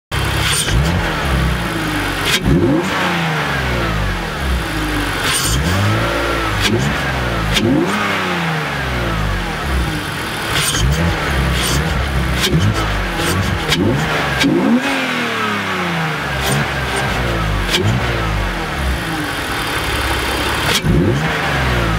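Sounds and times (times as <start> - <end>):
car engine revving: 0.1 - 21.9.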